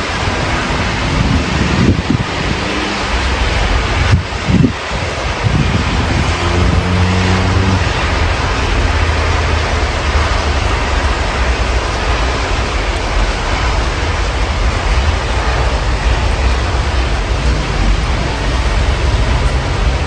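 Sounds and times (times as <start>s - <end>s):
low rumble: 0.0s - 20.0s
rain hiss: 0.0s - 20.0s.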